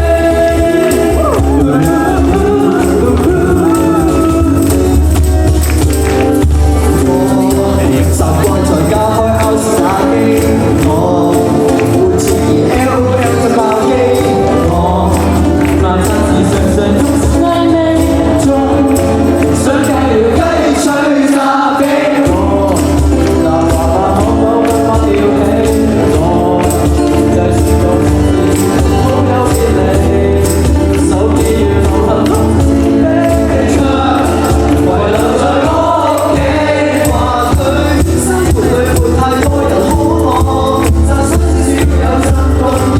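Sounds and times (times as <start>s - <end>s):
live band playing: 0.0s - 42.9s
person singing: 0.0s - 42.9s.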